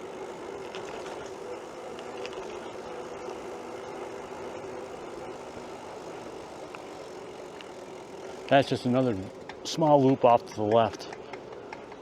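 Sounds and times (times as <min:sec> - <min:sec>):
bike tyres rushing on pavement: 0:00.0 - 0:12.0
faint steady hum: 0:00.0 - 0:12.0.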